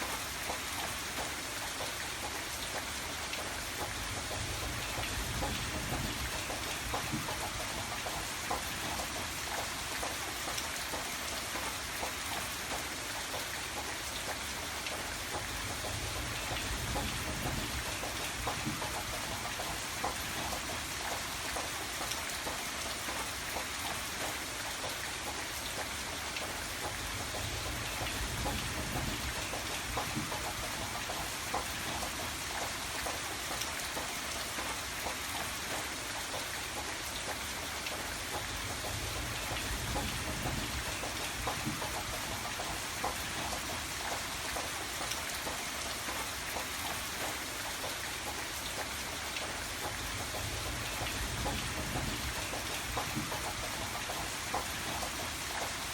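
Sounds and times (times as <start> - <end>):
rain falling on a hard surface: 0.0 - 55.9.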